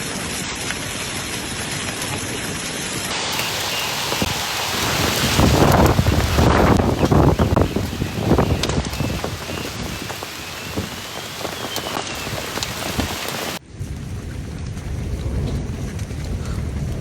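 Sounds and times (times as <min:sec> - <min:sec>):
heavy rain pelting: 0:00.0 - 0:17.0
hailstones clicking: 0:03.1 - 0:17.0.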